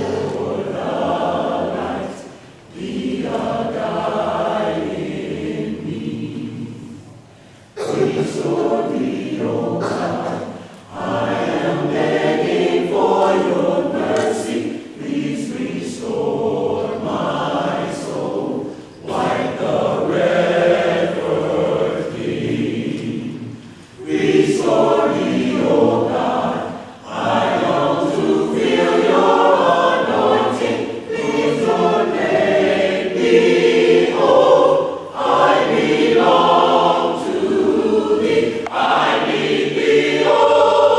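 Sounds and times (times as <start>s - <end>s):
choir singing a cappella: 0.0s - 40.9s.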